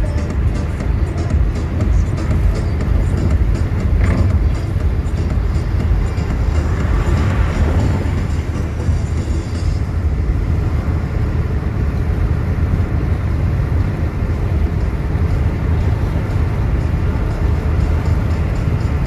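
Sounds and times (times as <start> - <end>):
car interior road rumble: 0.0 - 19.0.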